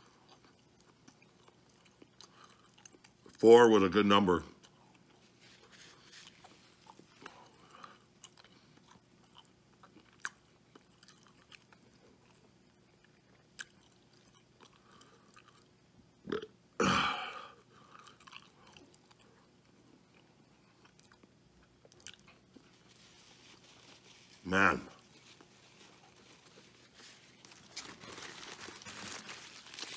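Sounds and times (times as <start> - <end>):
man chewing food: 0.0 - 3.4, 4.6 - 16.5, 17.6 - 24.4, 25.0 - 29.9.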